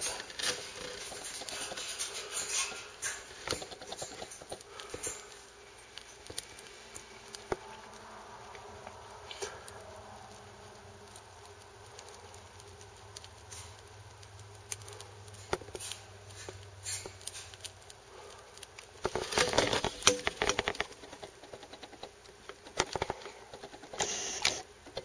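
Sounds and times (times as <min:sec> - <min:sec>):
light clicks and scratching: 0:00.0 - 0:07.6, 0:08.8 - 0:25.0
sharp crackling clicks: 0:00.0 - 0:25.0.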